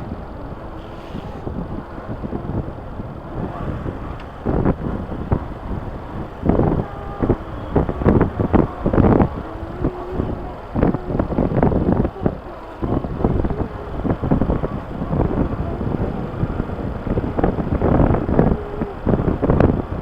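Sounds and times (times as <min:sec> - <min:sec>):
motorcycle running hum: 0:00.0 - 0:20.0
wind buffeting microphone: 0:00.0 - 0:20.0.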